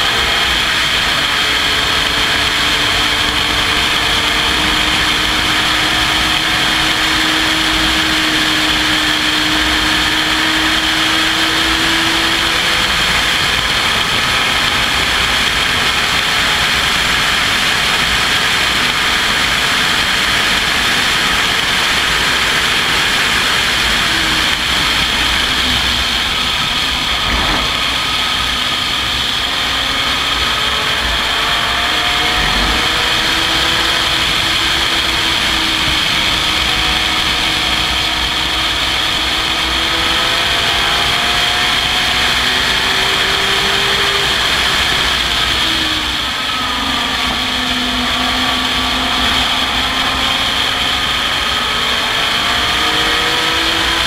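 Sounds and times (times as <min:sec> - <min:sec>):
race car engine running hard: 0:00.0 - 0:54.0
wind and road noise: 0:00.0 - 0:54.0.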